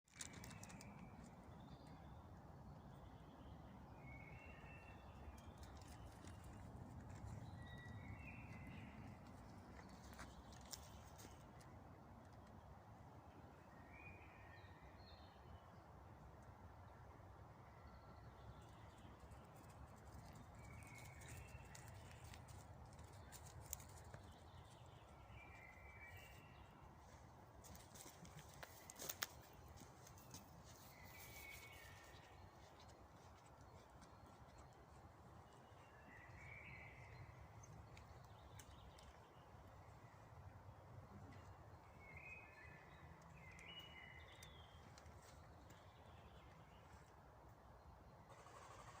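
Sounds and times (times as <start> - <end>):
faint birdsong: 0.1 - 49.0.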